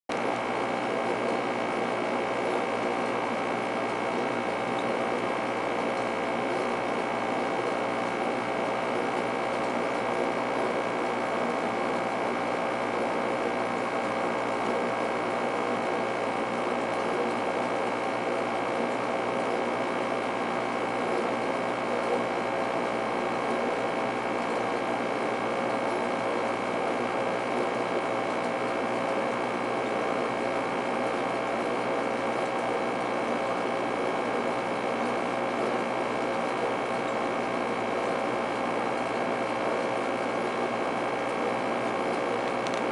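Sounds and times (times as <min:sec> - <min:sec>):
steady machine hum: 0:00.1 - 0:42.9.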